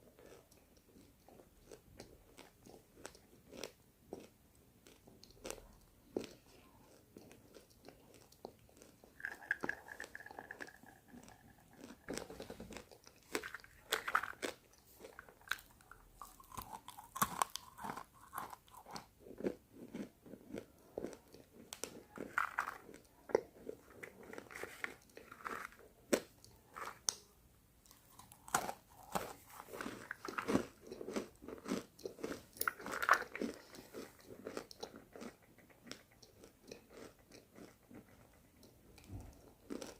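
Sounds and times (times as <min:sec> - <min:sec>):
chalk crunching while chewed: 0:00.2 - 0:27.2, 0:27.8 - 0:39.9.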